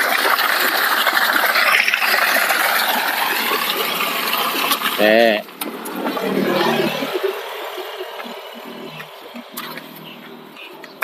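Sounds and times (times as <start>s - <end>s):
water gushing from pump: 0.0s - 10.4s.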